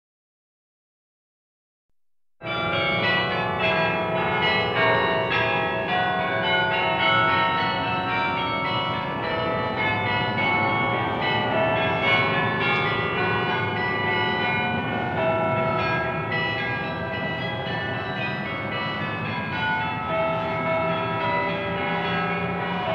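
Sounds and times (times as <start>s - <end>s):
church bells ringing a tune: 2.4s - 22.9s.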